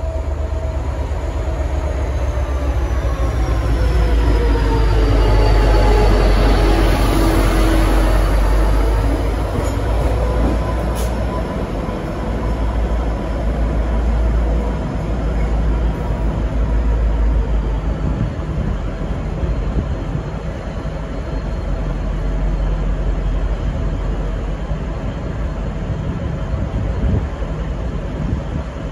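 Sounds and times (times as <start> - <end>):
diesel locomotive passing: 0.0 - 28.9.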